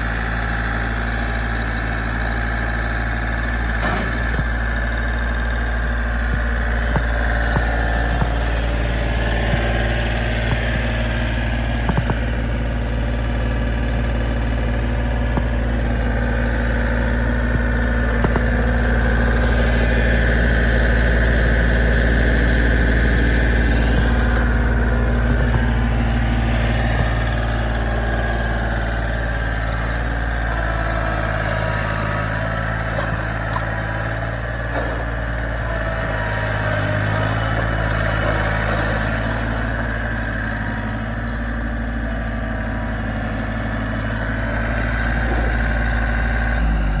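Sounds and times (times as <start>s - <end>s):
tractor diesel engine running: 0.0s - 47.0s
tractor driving on gravel: 0.0s - 47.0s.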